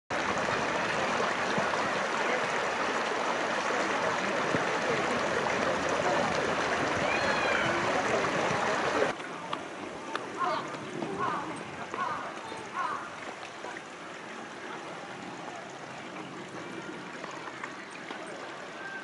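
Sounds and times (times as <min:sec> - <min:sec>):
stream splashing over rocks: 0:00.1 - 0:19.0.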